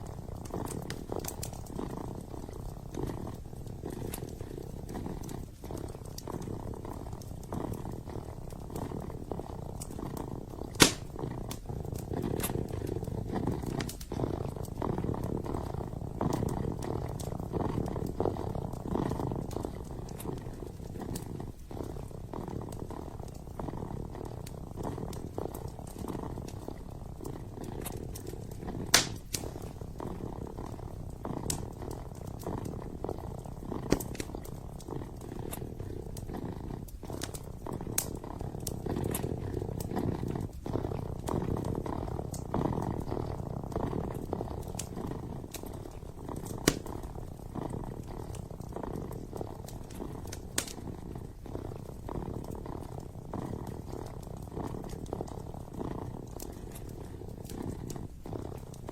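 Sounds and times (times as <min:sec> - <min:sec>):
kitten purring: 0:00.0 - 0:58.9
wood fire crackling: 0:00.0 - 0:58.9.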